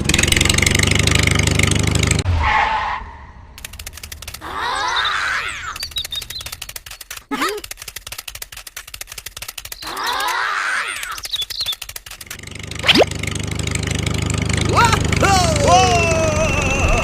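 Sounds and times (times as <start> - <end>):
small engine ticking: 0.0 - 2.2, 3.6 - 5.0, 5.7 - 10.4, 11.1 - 17.0.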